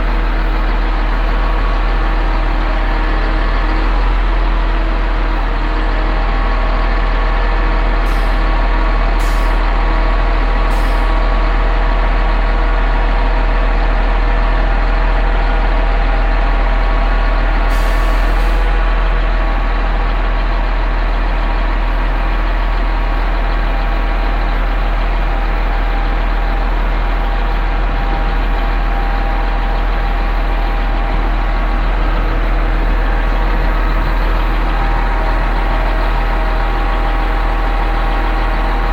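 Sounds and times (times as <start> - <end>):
truck engine running under load: 0.0 - 38.9.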